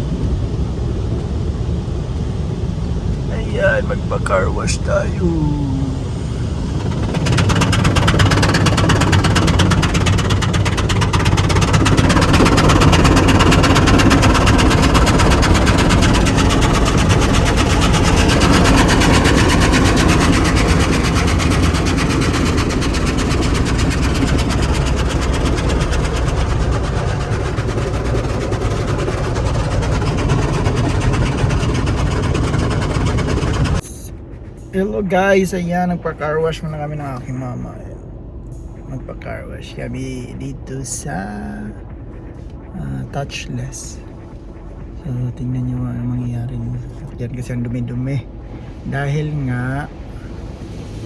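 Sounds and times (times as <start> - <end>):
low engine hum: 0.0 - 51.0
rushing noise inside a car: 0.0 - 51.0.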